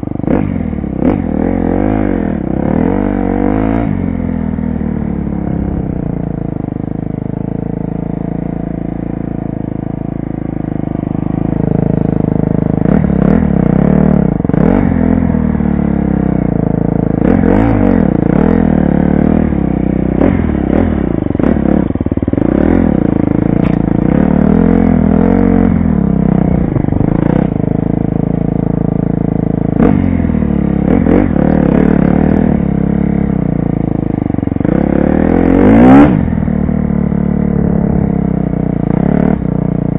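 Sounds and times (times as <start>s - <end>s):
engine clatter: 0.0s - 39.9s
motorcycle engine revving: 0.0s - 39.9s.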